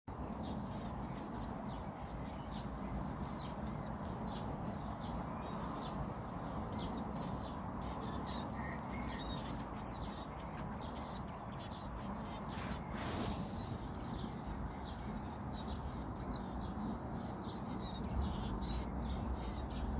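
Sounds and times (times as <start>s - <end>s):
small birds chirping: 0.1s - 19.9s.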